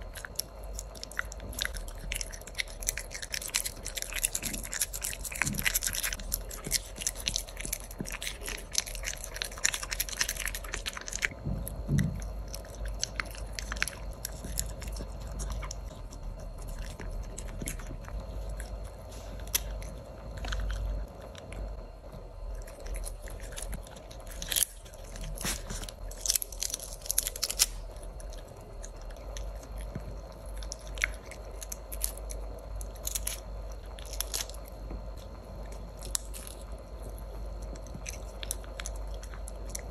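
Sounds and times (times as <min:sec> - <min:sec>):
puppy crunching a treat: 0:00.0 - 0:39.9
puppy crunching lettuce: 0:00.0 - 0:39.9.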